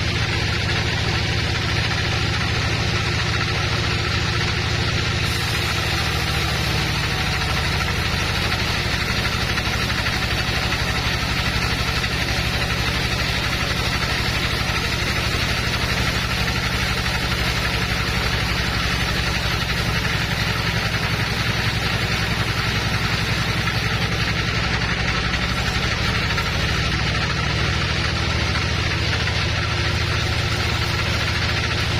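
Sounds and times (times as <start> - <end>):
bandsaw sawmill drone: 0.0 - 31.9.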